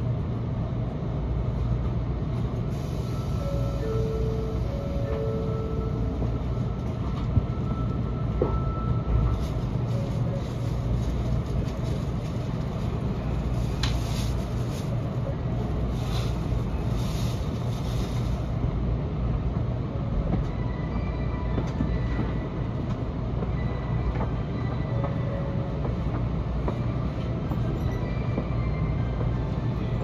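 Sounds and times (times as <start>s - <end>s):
train equipment humming: 0.0s - 30.0s.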